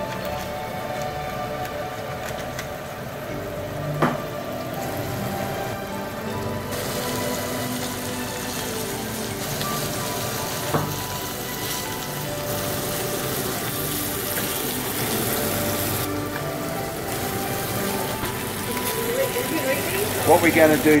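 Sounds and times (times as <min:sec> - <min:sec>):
background music: 0:00.0 - 0:21.0
fish sizzling in a frying pan: 0:00.0 - 0:21.0.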